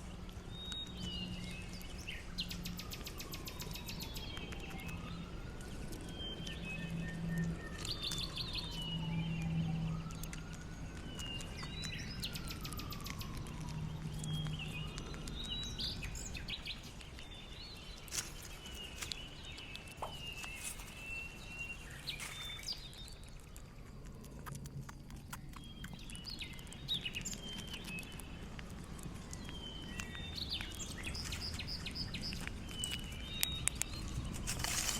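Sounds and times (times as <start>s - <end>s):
birds chirping: 0.0s - 23.7s, 25.3s - 34.9s
low steady hum: 0.0s - 34.9s.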